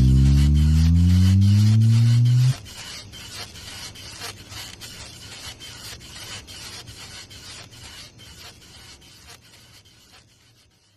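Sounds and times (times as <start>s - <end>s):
rough rasping rubbing strokes: 0.0s - 10.9s.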